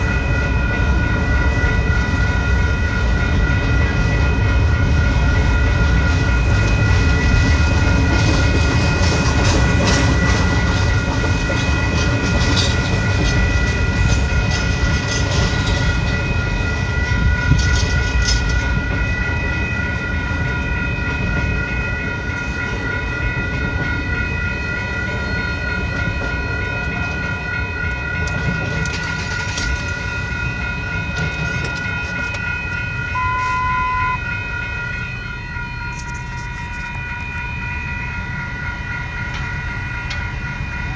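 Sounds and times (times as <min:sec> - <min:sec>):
crossing bell ringing: 0:00.0 - 0:40.9
train wheels rumbling on rail: 0:00.0 - 0:40.9.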